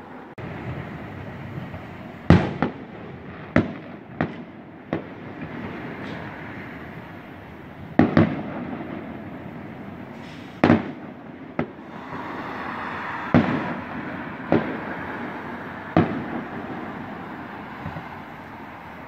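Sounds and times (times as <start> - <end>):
steady background noise: 0.0 - 19.0
distant firework bangs: 0.4 - 19.0.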